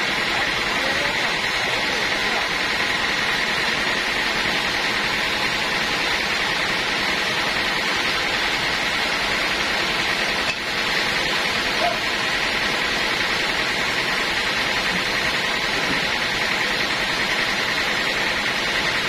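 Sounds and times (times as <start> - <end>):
band saw running: 0.0 - 19.0.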